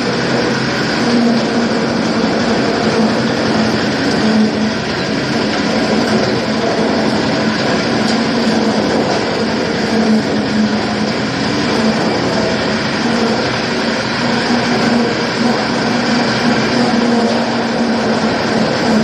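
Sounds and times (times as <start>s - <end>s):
diesel engine hum: 0.0s - 19.0s
nut splitting machine din: 0.0s - 19.0s.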